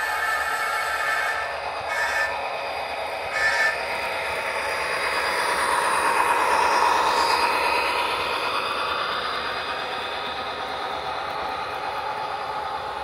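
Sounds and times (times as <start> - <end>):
model train rolling past: 0.0 - 13.0.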